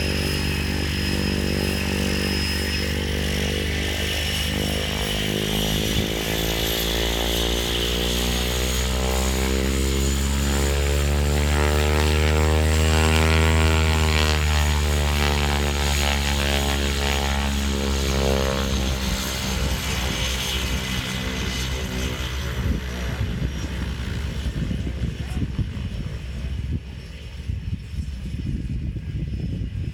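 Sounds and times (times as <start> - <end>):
high turbine whine: 0.0 - 29.9
propeller plane engine: 0.0 - 29.9.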